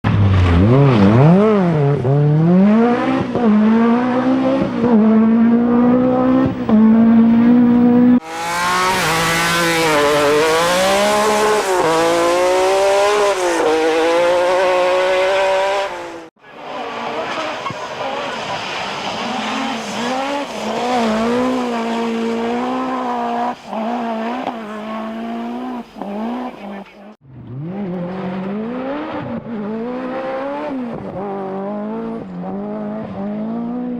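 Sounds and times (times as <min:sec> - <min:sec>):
rally car engines revving: 0:00.0 - 0:33.9.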